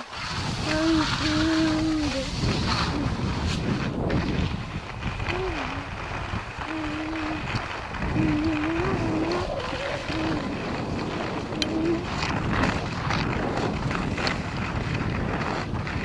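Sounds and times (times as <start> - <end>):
skis scraping on snow: 0.0 - 16.0
wind rushing over microphone: 0.0 - 16.0.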